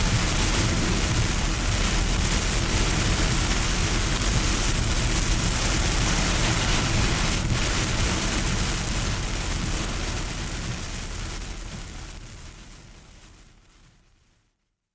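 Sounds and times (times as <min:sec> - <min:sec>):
low rumble: 0:00.0 - 0:12.0
heavy rain falling: 0:00.0 - 0:12.8.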